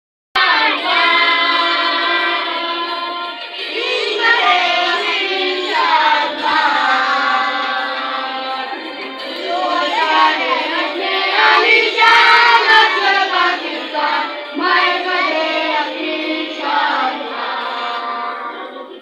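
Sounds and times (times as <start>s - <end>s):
children singing: 0.4s - 19.0s
music: 0.4s - 19.0s.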